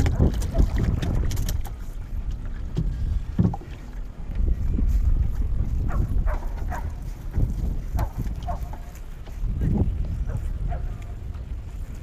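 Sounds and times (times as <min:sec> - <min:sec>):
paddle splashing in water: 0:00.0 - 0:12.0
wind rumbling on microphone: 0:00.0 - 0:12.0.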